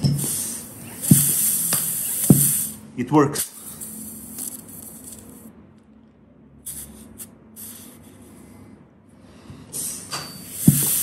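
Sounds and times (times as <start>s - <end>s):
compressed air hissing: 0.0s - 5.5s, 6.6s - 8.7s, 9.7s - 11.0s.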